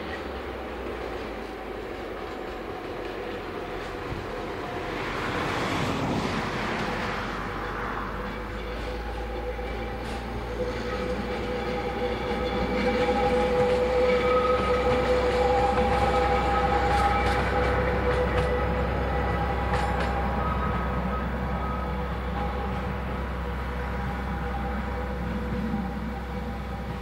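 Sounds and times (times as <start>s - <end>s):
train rumbling and whining: 0.0s - 27.0s
wheels clicking on rails: 0.0s - 27.0s.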